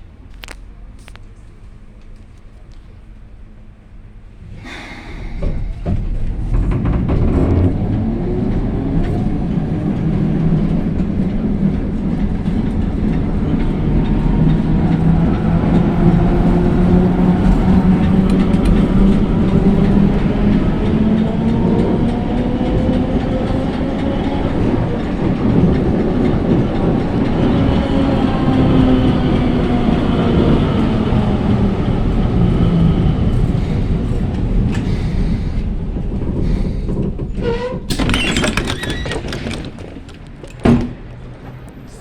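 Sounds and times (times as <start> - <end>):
tram running on rails: 0.0 - 42.0
wheels rattling on track: 1.2 - 42.0.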